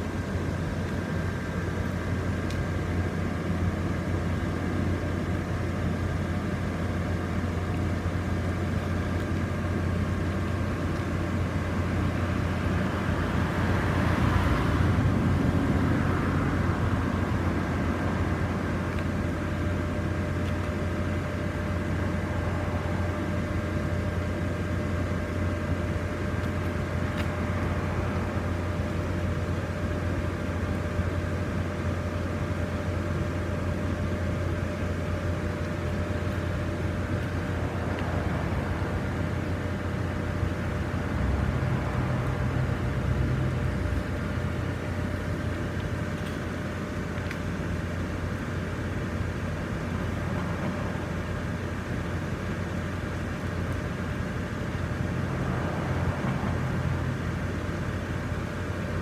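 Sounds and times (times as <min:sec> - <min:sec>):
blower fans humming: 0:00.0 - 0:59.0
faint constant whine: 0:00.0 - 0:59.0.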